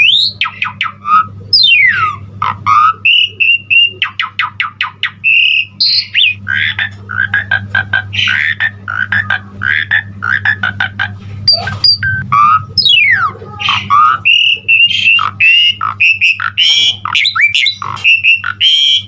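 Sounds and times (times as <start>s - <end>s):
starling singing varied song: 0.0s - 19.0s
steady low hum: 0.0s - 19.0s.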